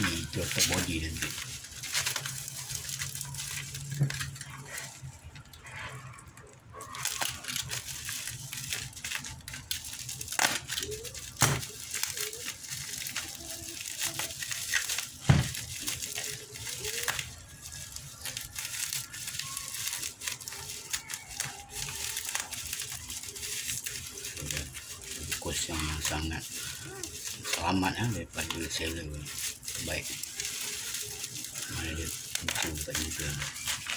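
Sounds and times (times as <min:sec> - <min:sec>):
plastic packaging crinkling: 0:00.0 - 0:33.9
plastic tearing: 0:00.0 - 0:33.9.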